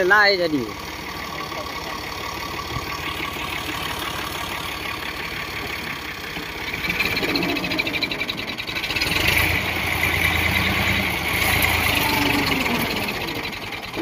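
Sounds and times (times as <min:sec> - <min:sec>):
tractor engine under load: 0:00.0 - 0:14.0.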